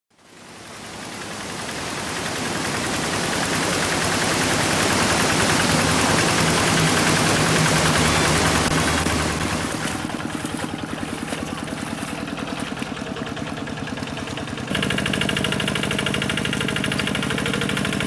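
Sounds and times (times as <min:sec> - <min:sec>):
diesel tractor engine running: 0:00.4 - 0:18.0.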